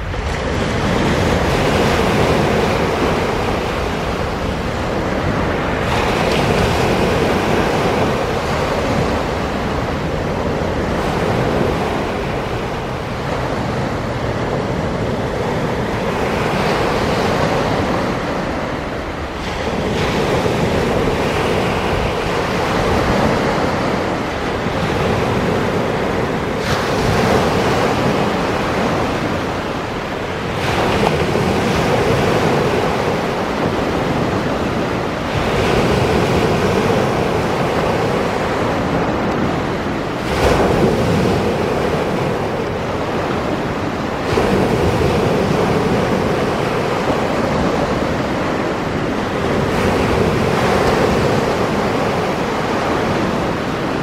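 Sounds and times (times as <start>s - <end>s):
sea waves crashing: 0.0s - 54.0s
steady rush of surf: 0.0s - 54.0s.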